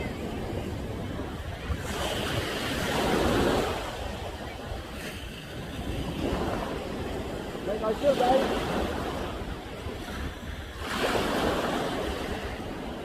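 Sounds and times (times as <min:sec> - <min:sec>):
ocean surf washing ashore: 0:00.0 - 0:13.0.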